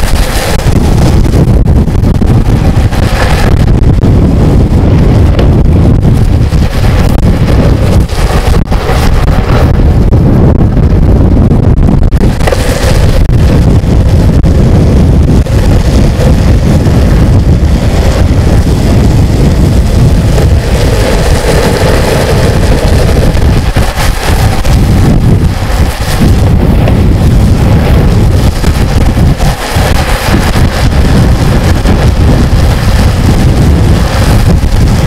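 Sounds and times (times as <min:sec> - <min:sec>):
skateboard wheels rolling on asphalt: 0:00.0 - 0:35.0
wind buffeting microphone: 0:00.0 - 0:35.0.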